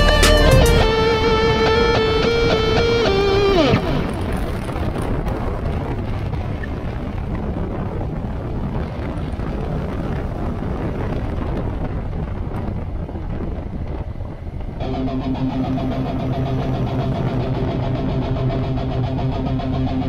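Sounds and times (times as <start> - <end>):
motorcycle engine drone: 0.0 - 20.0
wind rushing over microphone: 0.0 - 20.0.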